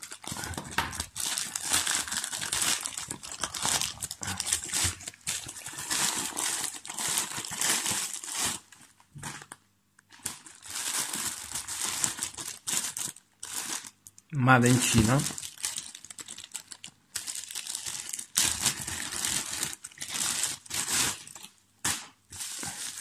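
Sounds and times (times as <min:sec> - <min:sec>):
paper and plastic crinkling: 0:00.0 - 0:23.0.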